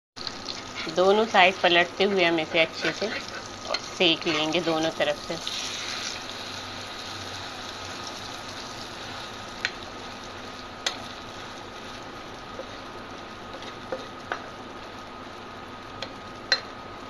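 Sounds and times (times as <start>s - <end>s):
omelette sizzling in frying pan: 0.2s - 17.0s.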